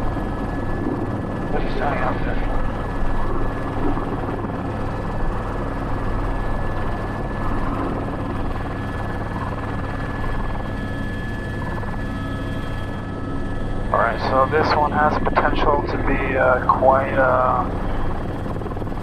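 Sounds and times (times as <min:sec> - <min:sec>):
helicopter rotor drone: 0:00.0 - 0:19.0
high turbine whine: 0:00.0 - 0:19.0.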